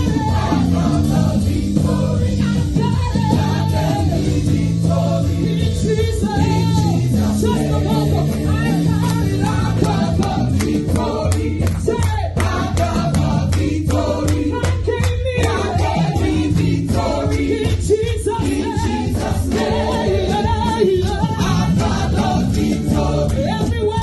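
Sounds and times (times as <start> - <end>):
sustained bass notes: 0.0 - 11.9, 15.4 - 23.9
group singing gospel: 0.0 - 24.0.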